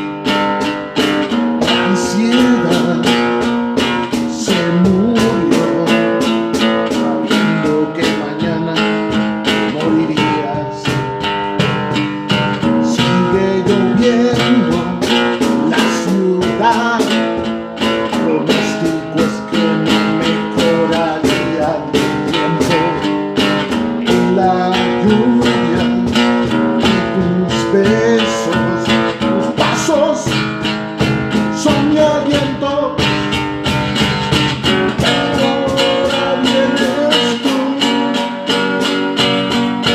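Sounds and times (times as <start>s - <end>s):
acoustic guitar strummed and plucked: 0.0s - 39.9s.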